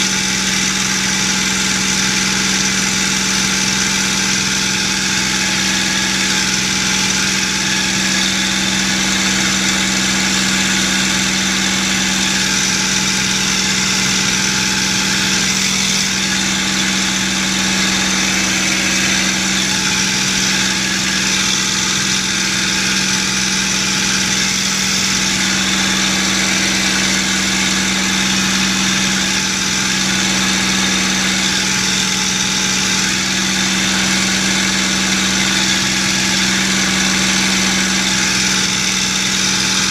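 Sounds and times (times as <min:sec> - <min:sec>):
aircraft engine and propeller hum: 0:00.0 - 0:39.9.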